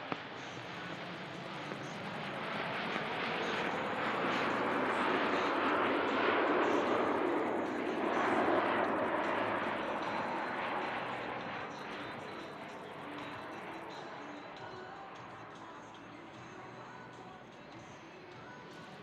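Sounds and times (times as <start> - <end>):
airplane engine drone: 0.0 - 19.0.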